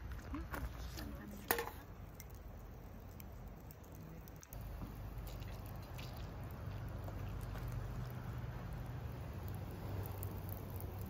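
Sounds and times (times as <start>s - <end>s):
embers popping and crackling: 0.0s - 11.0s
shells bubbling and sizzling: 0.0s - 11.0s.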